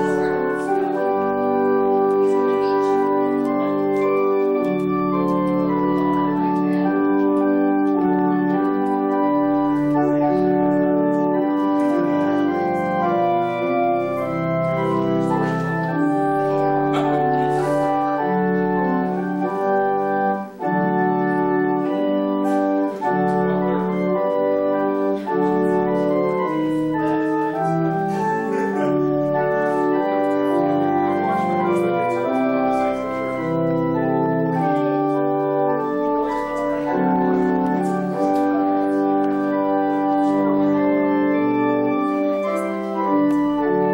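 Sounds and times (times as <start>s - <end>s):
organ playing held chords: 0.0s - 43.9s.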